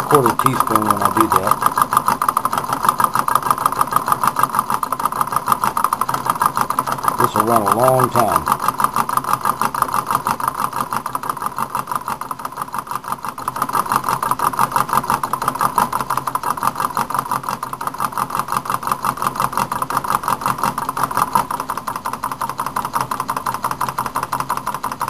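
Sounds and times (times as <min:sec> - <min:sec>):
stirling engine clattering: 0:00.0 - 0:25.0.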